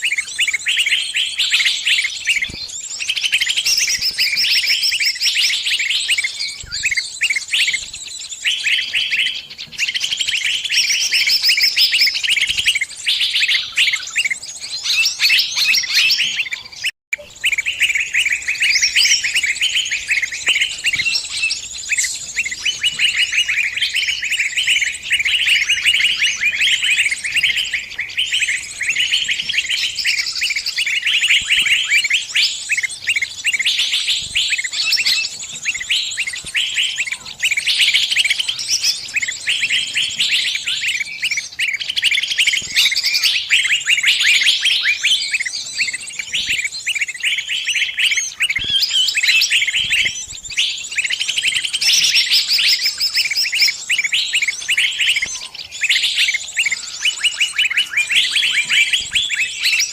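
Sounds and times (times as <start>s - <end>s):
small bird distress calls: 0.0s - 59.9s.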